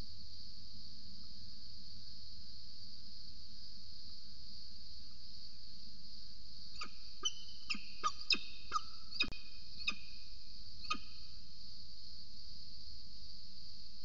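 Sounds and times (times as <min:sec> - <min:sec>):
insects hissing: 0:00.0 - 0:14.0.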